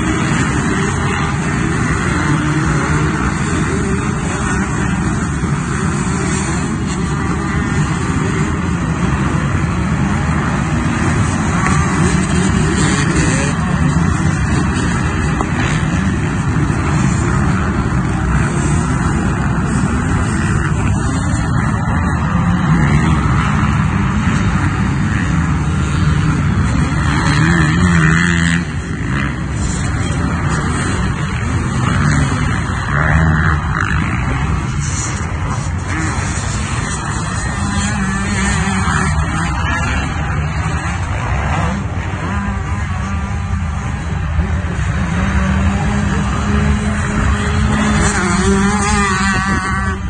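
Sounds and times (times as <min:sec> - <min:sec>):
dirt bike engines revving: 0:00.0 - 0:50.0.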